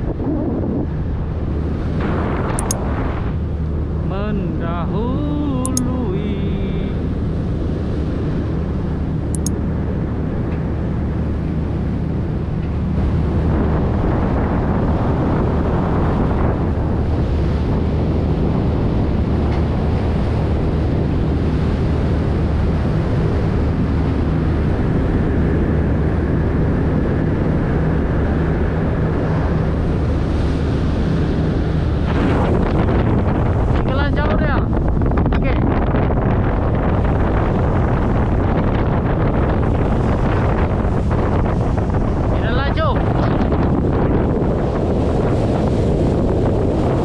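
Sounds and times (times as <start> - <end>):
boat engines humming: 0.0 - 47.0
water rushing along hull: 0.0 - 47.0
wind buffeting microphone: 0.0 - 47.0.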